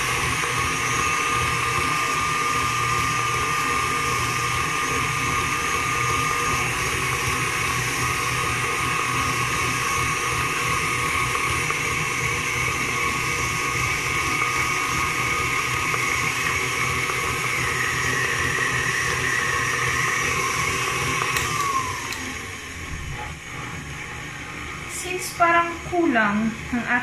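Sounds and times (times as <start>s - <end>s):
stand mixer motor whine: 0.0s - 27.0s.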